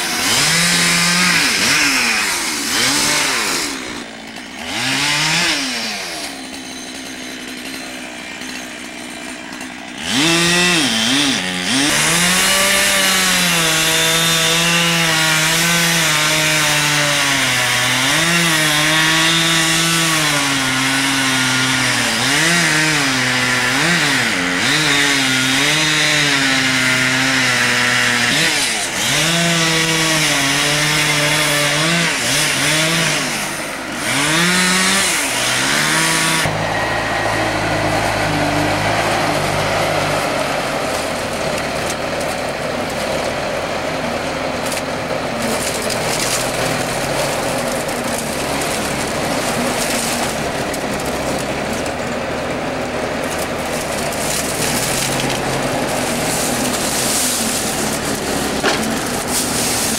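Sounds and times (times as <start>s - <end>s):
chainsaw idling and cutting wood: 0.0s - 59.9s.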